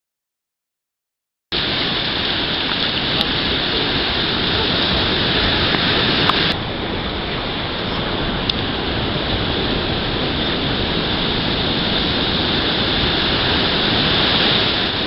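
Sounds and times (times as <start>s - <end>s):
wind: 1.5s - 15.0s
sea surf: 1.6s - 15.0s.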